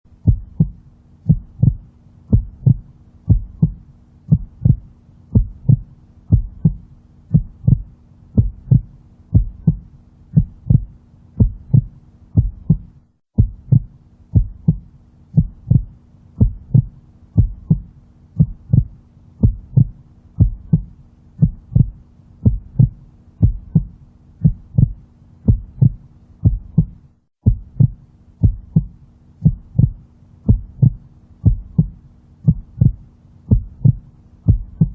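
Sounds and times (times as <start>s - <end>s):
heartbeat double thump: 0.1s - 34.9s
low steady hum: 0.1s - 34.9s.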